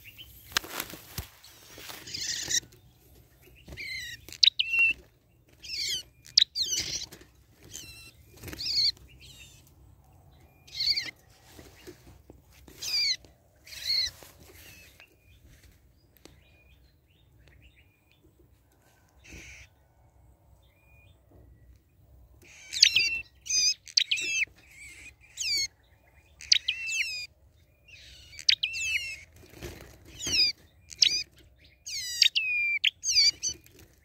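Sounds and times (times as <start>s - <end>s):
songbird chirping: 0.0s - 34.0s.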